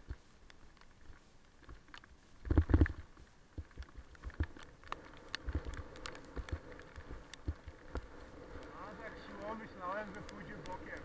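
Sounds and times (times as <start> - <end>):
rain: 0.0 - 11.0.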